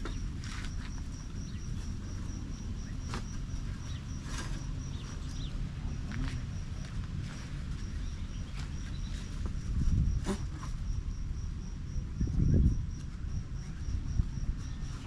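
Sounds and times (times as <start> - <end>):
insect chirping: 0.0 - 15.0.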